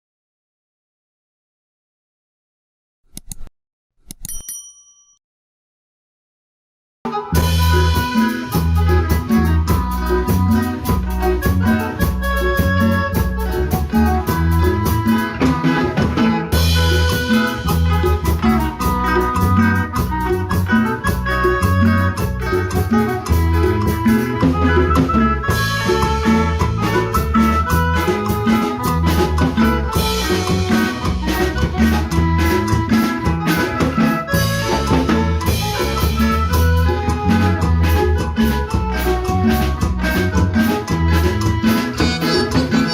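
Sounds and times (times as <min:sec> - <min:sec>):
drum kit beat: 0:07.1 - 0:42.9
held melodic notes: 0:07.1 - 0:42.9
live band playing: 0:07.1 - 0:42.9
strong bass line: 0:07.4 - 0:42.9.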